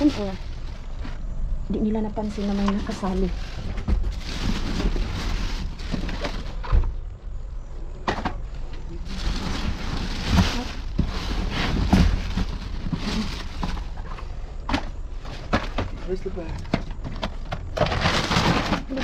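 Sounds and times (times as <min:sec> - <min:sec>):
cardboard and plastic rustling: 0:00.0 - 0:07.4, 0:08.0 - 0:19.0.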